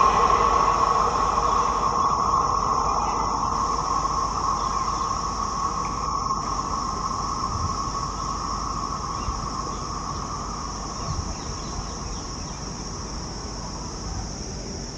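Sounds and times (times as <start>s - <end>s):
train rumbling past: 0.0s - 14.0s
insects chirring: 0.0s - 14.9s.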